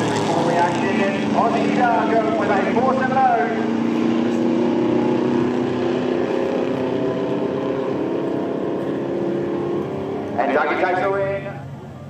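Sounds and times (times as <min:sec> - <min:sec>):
racing engines droning: 0:00.0 - 0:12.0.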